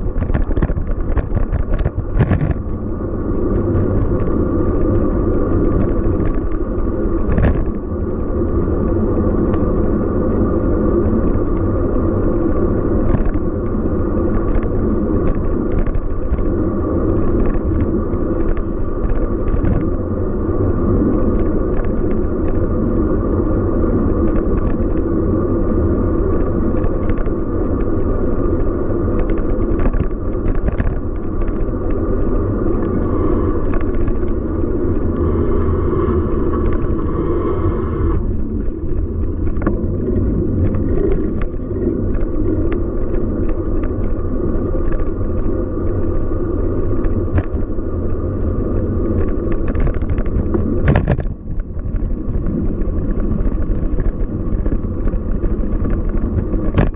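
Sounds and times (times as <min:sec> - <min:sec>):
city traffic rumble: 0:00.0 - 0:56.9.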